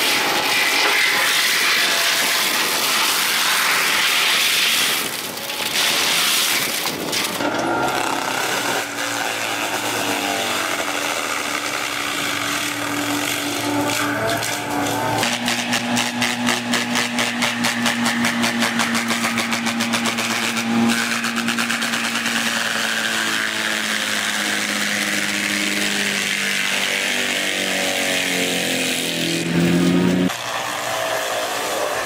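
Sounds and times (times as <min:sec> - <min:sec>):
heavy machine engine running: 0:01.3 - 0:32.0.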